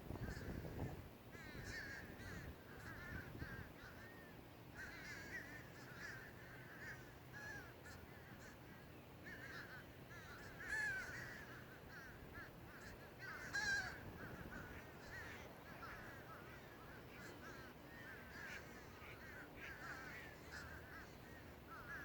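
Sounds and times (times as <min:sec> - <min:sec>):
flock of birds calling: 0:00.1 - 0:22.0.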